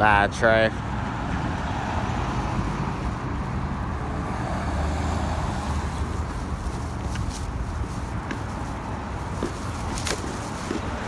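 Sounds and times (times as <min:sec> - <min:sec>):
passing cars and trucks: 0:00.0 - 0:11.0.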